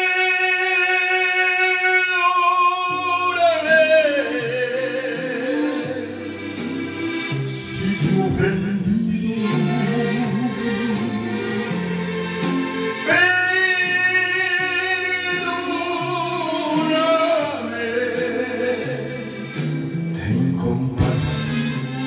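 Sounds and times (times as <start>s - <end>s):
man singing into a microphone: 0.0s - 6.4s, 7.5s - 12.0s, 13.0s - 22.0s
instrumental backing track: 0.0s - 22.0s.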